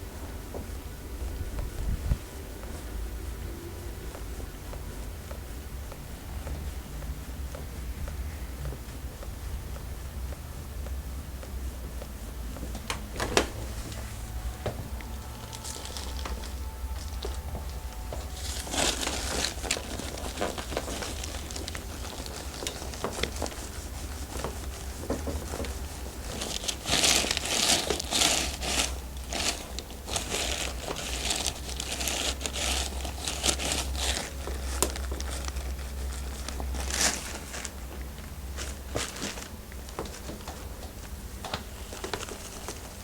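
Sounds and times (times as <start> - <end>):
hands rustling during massage: 0.0 - 43.0
steady low hum: 0.0 - 43.0.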